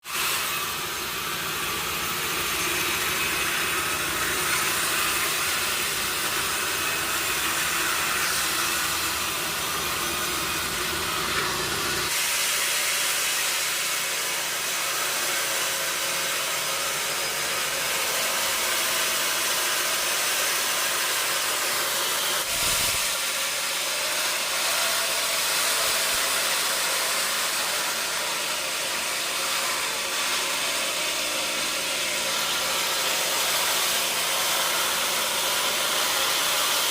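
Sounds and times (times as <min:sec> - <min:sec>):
sawmill machinery hissing: 0:00.0 - 0:36.9.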